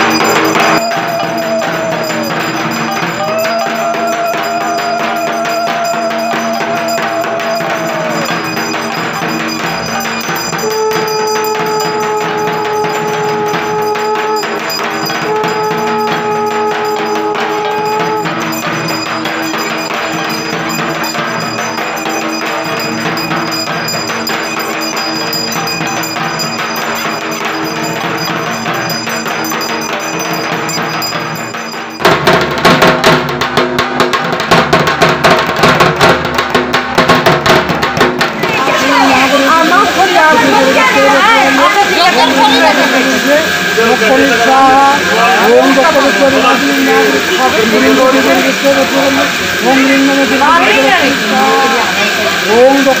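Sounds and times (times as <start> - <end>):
fast barrel drum drumming: 0.0 - 53.0
music with long held notes: 0.0 - 53.0.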